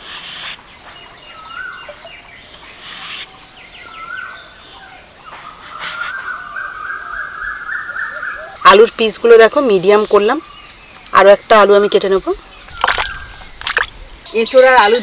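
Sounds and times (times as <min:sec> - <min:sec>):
bird calling: 0:01.3 - 0:09.0, 0:10.4 - 0:15.0.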